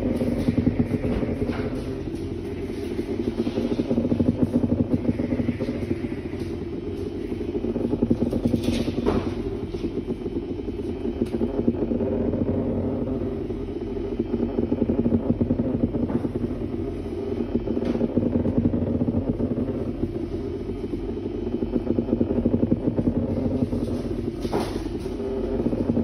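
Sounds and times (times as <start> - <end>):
vibrator buzzing and rattling: 0.0 - 26.0.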